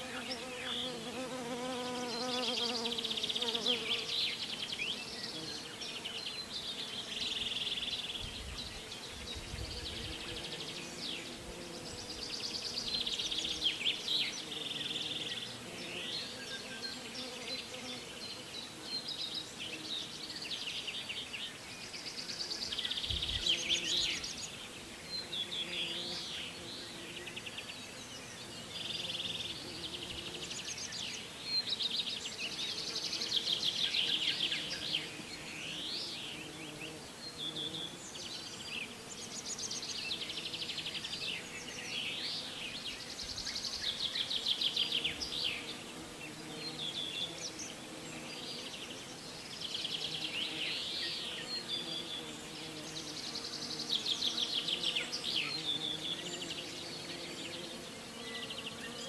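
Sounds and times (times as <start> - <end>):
faint insect buzz: 0.0 - 59.0
songbirds singing: 0.0 - 59.0.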